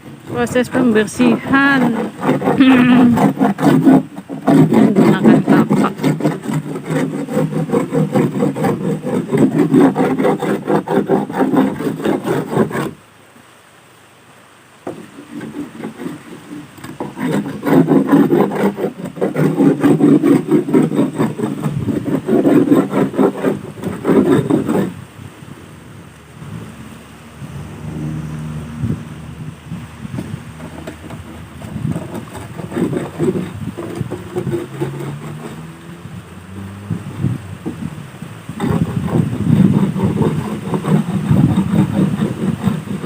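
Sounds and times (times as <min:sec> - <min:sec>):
hand tool scraping boat hull: 0:00.0 - 0:13.0, 0:14.8 - 0:25.8, 0:26.4 - 0:43.0.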